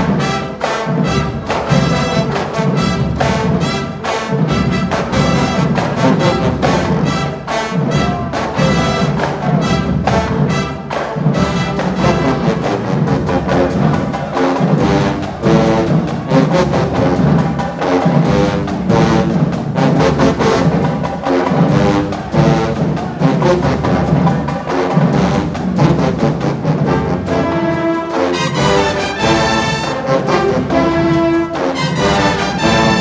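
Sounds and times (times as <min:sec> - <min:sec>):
brass section playing chords: 0:00.0 - 0:33.0
drumline steady beat: 0:00.0 - 0:33.0.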